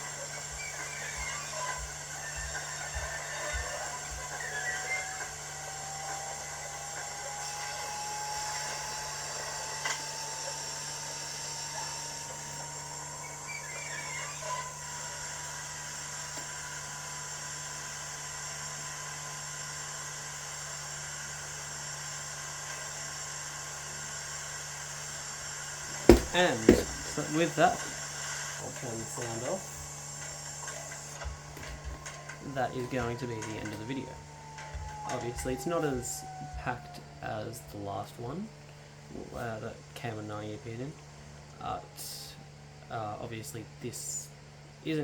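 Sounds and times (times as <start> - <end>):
model motor whine: 0.0 - 43.2.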